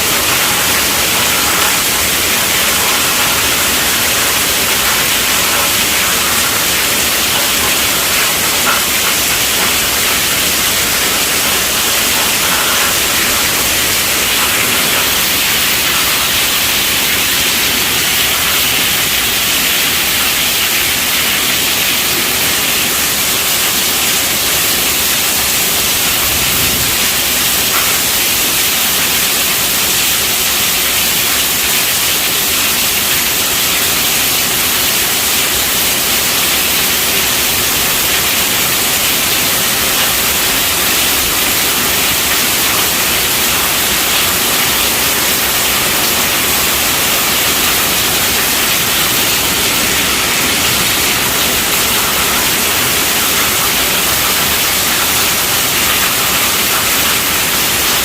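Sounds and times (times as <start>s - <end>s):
heavy rain on tent roof: 0.0s - 58.0s.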